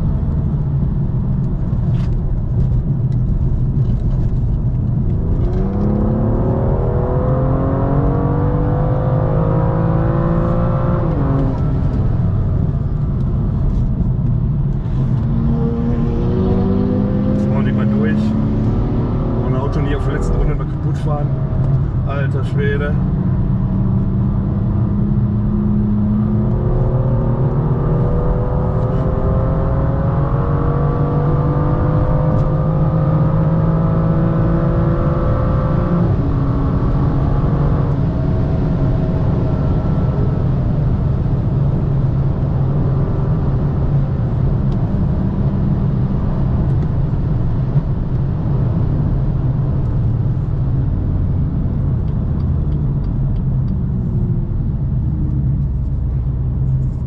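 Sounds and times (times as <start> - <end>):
car engine accelerating: 0.0 - 57.0
road and tyre rumble: 0.0 - 57.0.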